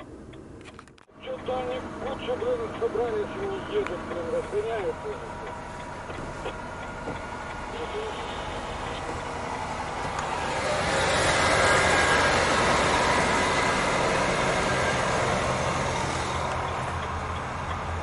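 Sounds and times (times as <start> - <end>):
low engine hum: 0.0 - 18.0
truck driving past: 0.0 - 18.0.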